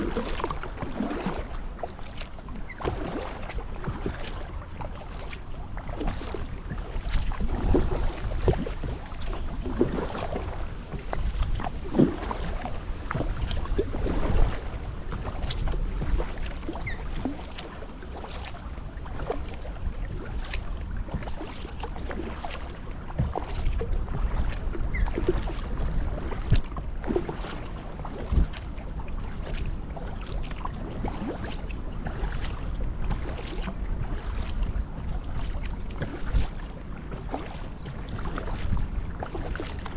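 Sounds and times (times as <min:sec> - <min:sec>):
paddle water splashing and dripping: 0:00.0 - 0:39.9
wind rumble on microphone: 0:00.0 - 0:39.9.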